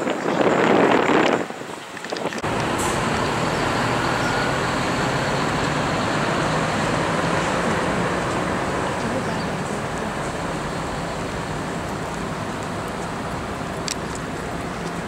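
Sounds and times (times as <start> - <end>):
expressway traffic: 0.0 - 15.0.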